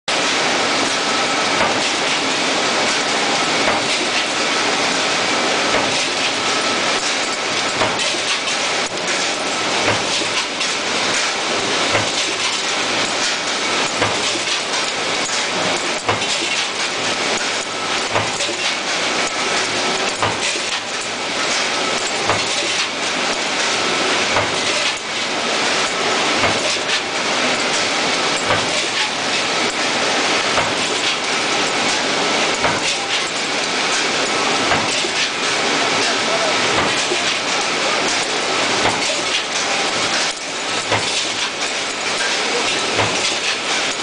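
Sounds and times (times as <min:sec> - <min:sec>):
conveyor running: 0:00.1 - 0:44.0.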